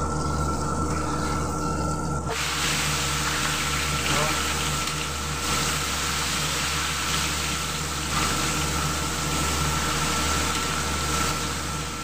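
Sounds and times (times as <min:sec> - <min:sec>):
chicken deep-frying in oil: 0:00.0 - 0:12.0
constant low hum: 0:00.0 - 0:12.0.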